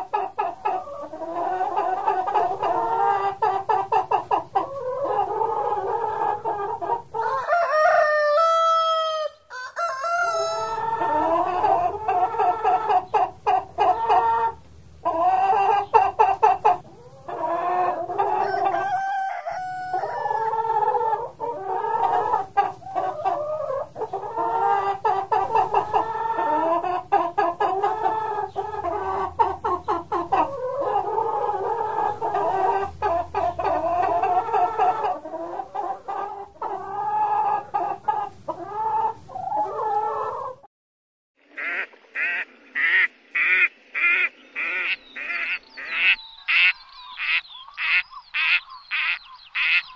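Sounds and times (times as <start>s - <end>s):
chicken drawn-out rising call: 0.0s - 40.7s, 41.4s - 49.9s
chickens clucking: 0.0s - 40.7s, 41.4s - 49.9s.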